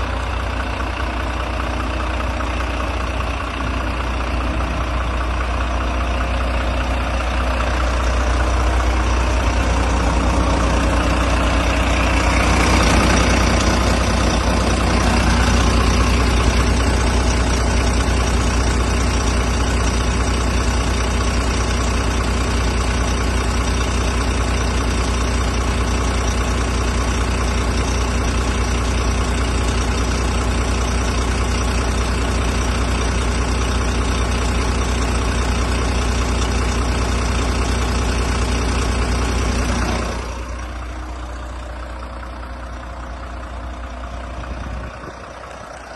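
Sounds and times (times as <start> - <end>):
truck diesel engine idling: 0.0 - 45.9.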